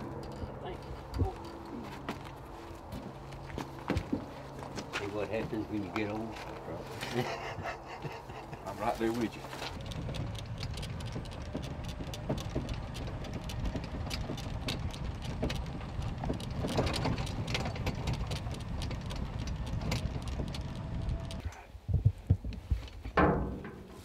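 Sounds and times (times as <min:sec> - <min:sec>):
vehicle engine running: 0:00.0 - 0:21.4
rattles and crunches from vehicle: 0:00.0 - 0:24.0.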